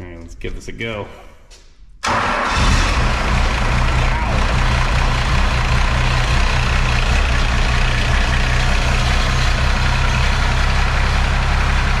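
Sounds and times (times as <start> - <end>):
diesel engine idling: 2.2 - 12.0.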